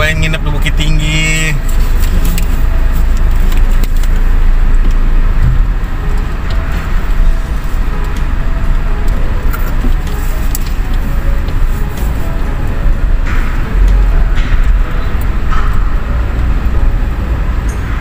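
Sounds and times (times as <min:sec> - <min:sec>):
ferry deck low rumble: 0:00.0 - 0:18.0.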